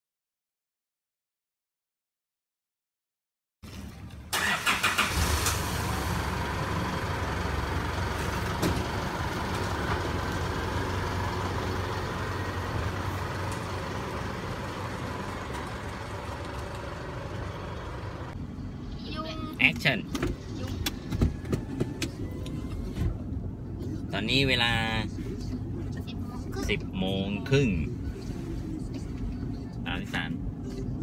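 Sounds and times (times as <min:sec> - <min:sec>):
car engine starting and idling: 0:03.6 - 0:31.0.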